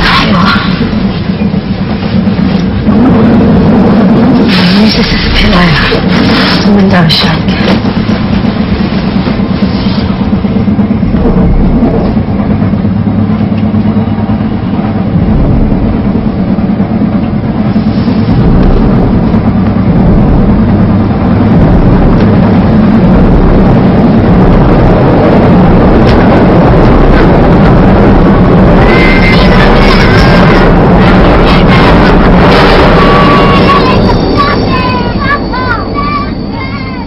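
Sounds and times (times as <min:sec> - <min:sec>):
train rumbling: 0:00.0 - 0:37.0.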